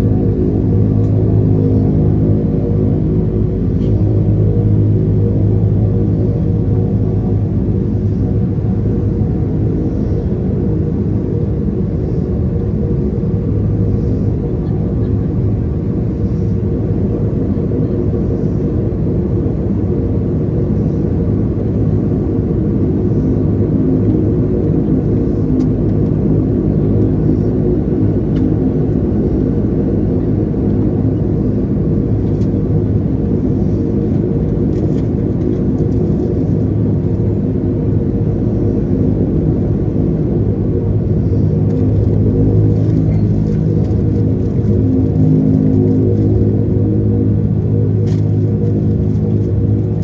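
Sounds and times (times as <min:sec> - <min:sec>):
turboprop engines droning: 0:00.0 - 0:50.0.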